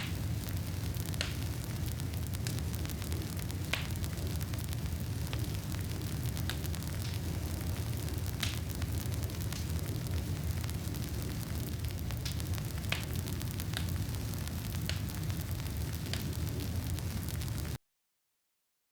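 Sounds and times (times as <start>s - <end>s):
flames rumbling: 0.0s - 17.8s
wood crackling and popping: 0.0s - 17.8s.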